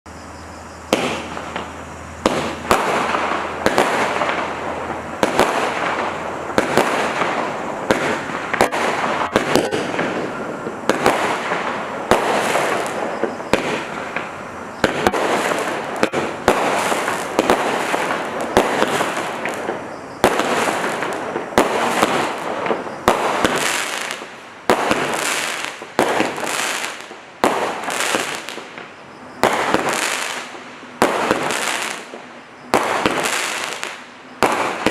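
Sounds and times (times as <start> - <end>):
rushing crackling firework noise: 0.8 - 34.9
firework shots launching and bursting: 0.9 - 34.9.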